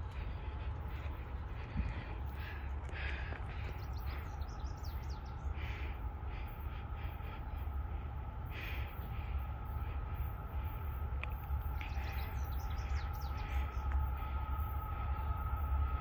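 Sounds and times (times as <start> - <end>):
small birds chirping: 0.0 - 15.7
low steady rumble: 0.0 - 16.0.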